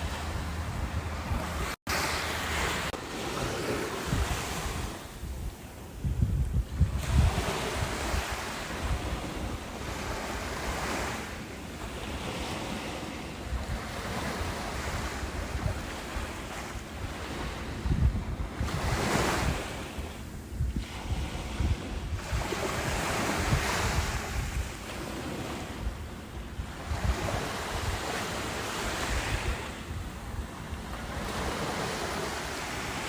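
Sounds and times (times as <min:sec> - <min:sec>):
ocean waves washing in: 0:00.0 - 0:33.0
wind buffeting microphone: 0:00.0 - 0:33.0.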